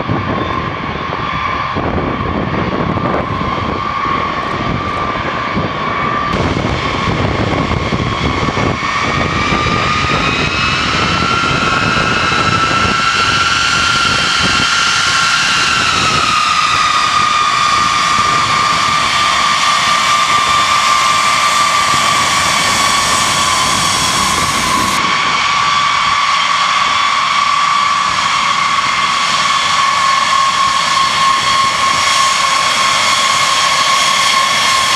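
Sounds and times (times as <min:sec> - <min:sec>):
jet engines roaring with high whine: 0:00.0 - 0:34.9.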